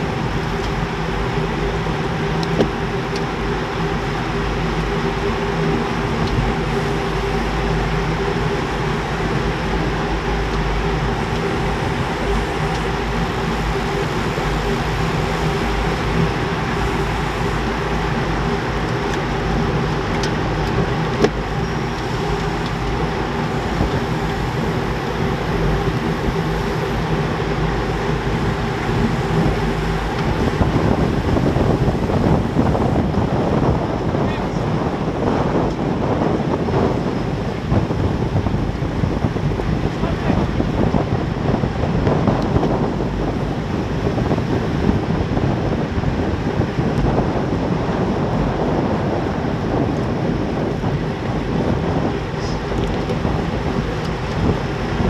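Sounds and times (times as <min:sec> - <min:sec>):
bicycle drivetrains whirring: 0:00.0 - 0:55.0
tyres humming on asphalt: 0:00.0 - 0:55.0.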